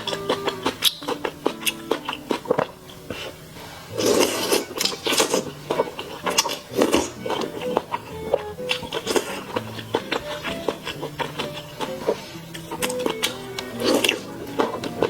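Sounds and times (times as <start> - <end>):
crunchy bites and chews: 0.0 - 15.0
wet smacking chewing: 0.0 - 15.0.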